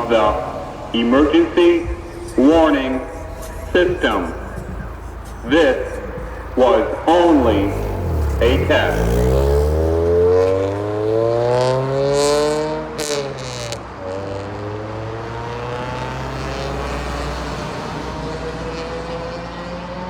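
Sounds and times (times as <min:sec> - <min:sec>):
steady traffic hum: 0:00.0 - 0:20.0
vehicle accelerating past: 0:00.0 - 0:20.0.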